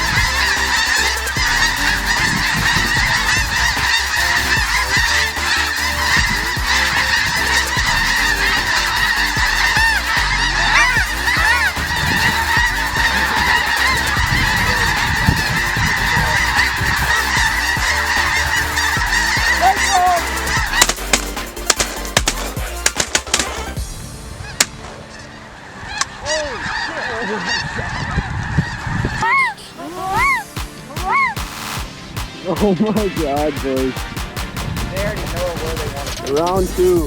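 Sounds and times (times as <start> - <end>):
snow geese honking: 0.0 - 37.0.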